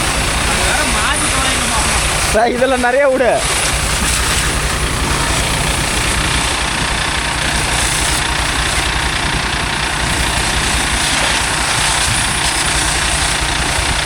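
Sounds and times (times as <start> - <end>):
engine idling: 0.0 - 14.0
water spraying hiss: 0.0 - 14.0.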